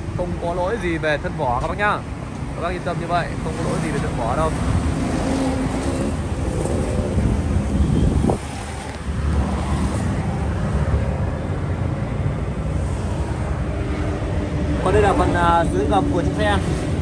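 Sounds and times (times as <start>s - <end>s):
street traffic rumble: 0.0s - 17.0s
wind buffeting microphone: 0.6s - 17.0s.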